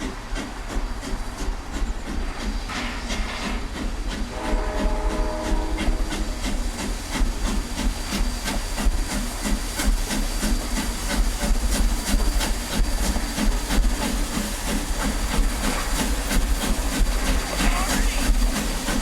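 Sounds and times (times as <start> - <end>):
hiss of steam: 0.0 - 19.0
steam locomotive running: 0.0 - 19.0.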